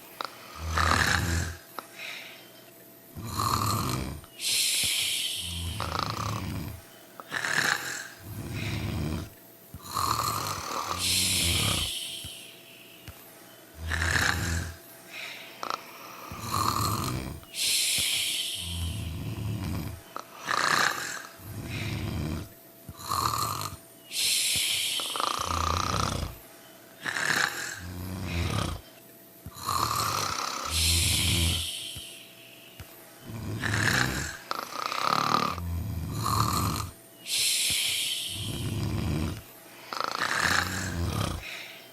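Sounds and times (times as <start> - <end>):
people snoring: 0.0 - 2.4, 3.1 - 41.9.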